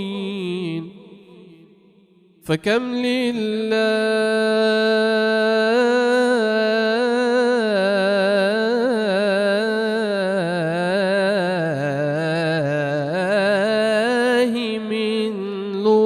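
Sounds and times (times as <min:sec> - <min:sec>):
man singing melismatic chant: 0:00.0 - 0:16.0.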